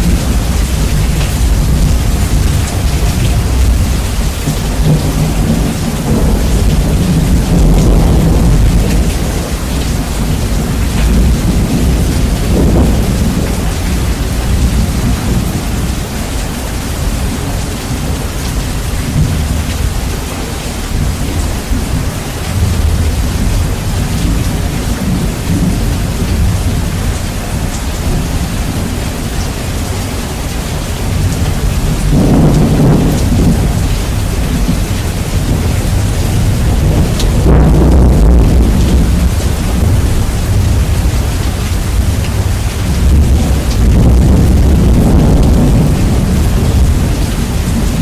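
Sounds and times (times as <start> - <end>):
heavy rain: 0.0 - 48.0
rumbling thunder: 0.0 - 48.0.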